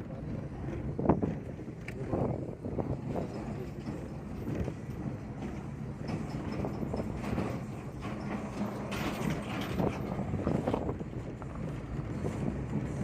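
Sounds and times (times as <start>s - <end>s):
vehicle engine rumble: 0.0s - 13.0s
small rattles and knocks: 1.1s - 13.0s.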